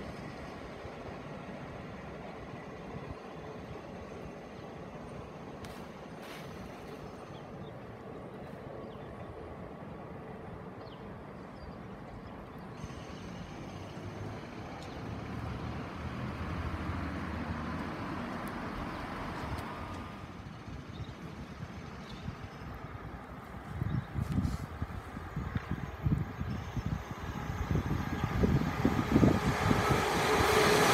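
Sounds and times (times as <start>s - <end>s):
distant train rumble: 0.0s - 30.9s
outdoor background noise: 0.0s - 30.9s.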